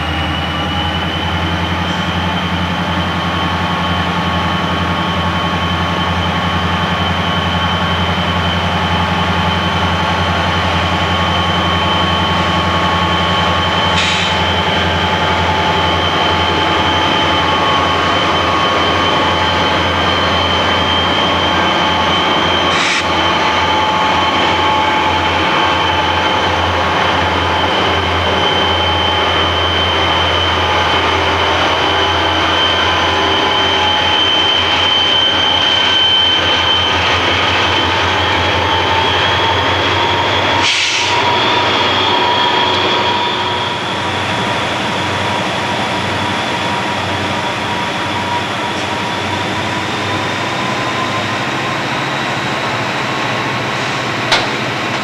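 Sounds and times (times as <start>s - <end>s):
diesel locomotives rumbling: 0.0s - 55.0s
steady high whine: 0.0s - 55.0s
train wheels rolling on rails: 0.0s - 55.0s.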